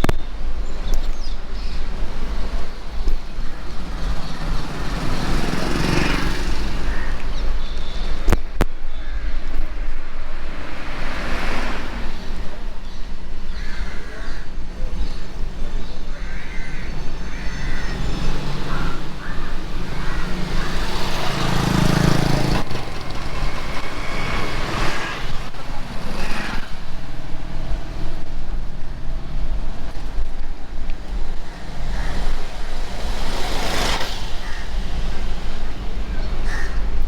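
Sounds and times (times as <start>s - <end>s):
motor vehicles passing: 0.0s - 37.0s
road and riding noise hum: 0.0s - 37.0s.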